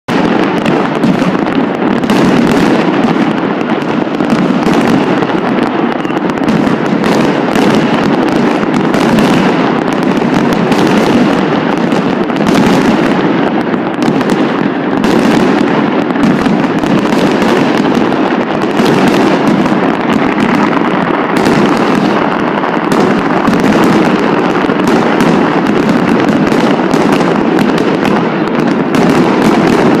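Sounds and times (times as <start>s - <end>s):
fireworks crackling: 0.0s - 30.0s.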